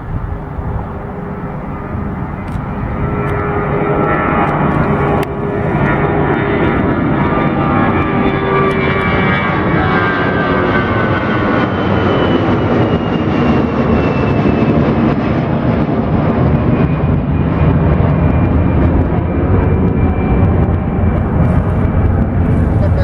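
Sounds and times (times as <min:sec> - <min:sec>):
jet engines roaring and whining: 0:00.0 - 0:23.0.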